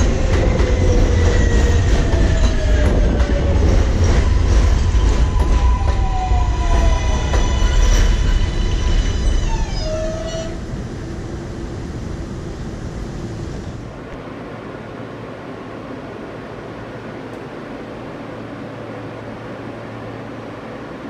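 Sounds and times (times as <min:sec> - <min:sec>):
steady background hum: 0:00.0 - 0:21.0
subway train wheels rumbling: 0:00.0 - 0:21.0.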